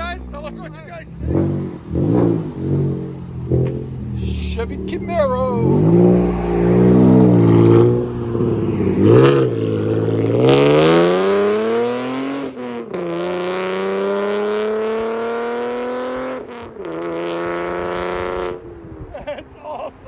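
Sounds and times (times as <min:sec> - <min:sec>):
car engine accelerating: 0:00.0 - 0:18.9.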